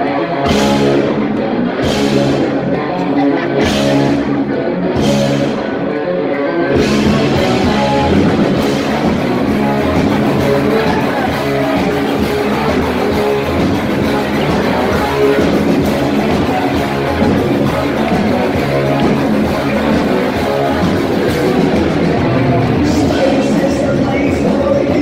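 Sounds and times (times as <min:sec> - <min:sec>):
live heavy rock band: 0:00.0 - 0:25.0.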